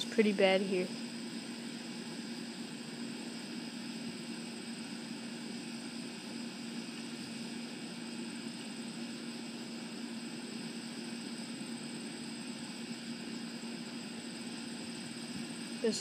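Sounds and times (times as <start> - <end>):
background hum: 0.0 - 16.0
even hiss: 0.0 - 16.0.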